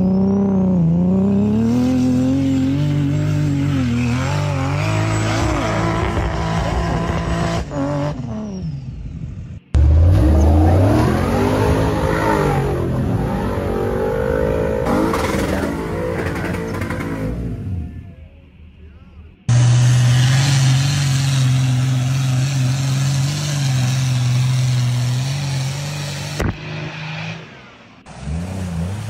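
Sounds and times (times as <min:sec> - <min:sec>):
engine revving through mud: 0:00.0 - 0:08.4, 0:09.8 - 0:17.8, 0:19.5 - 0:27.4, 0:28.0 - 0:29.0
off-road vehicle engine revving: 0:00.0 - 0:18.2, 0:19.4 - 0:29.0.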